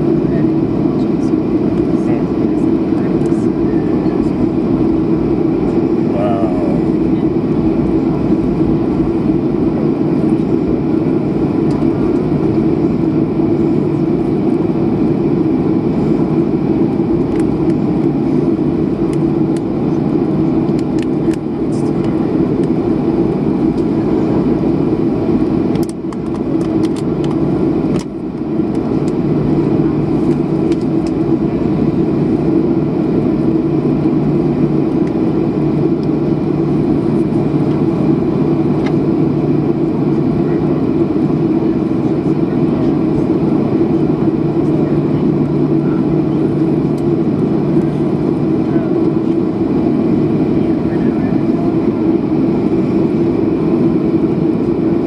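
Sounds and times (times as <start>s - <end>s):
jet engines humming: 0.0s - 55.0s.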